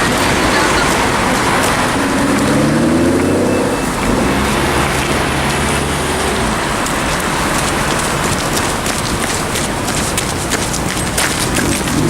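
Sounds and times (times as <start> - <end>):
car engine running at low revs: 0.0 - 12.0
road noise hiss: 0.0 - 12.0.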